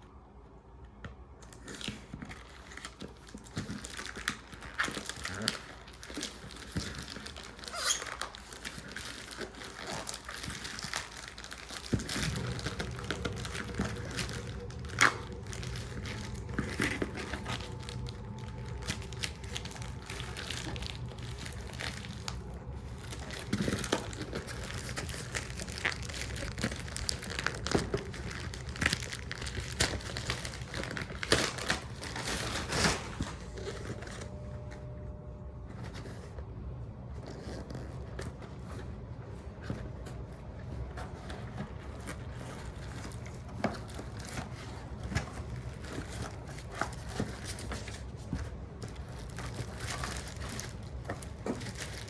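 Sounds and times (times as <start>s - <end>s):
packaging crinkling and tearing: 1.4s - 52.0s.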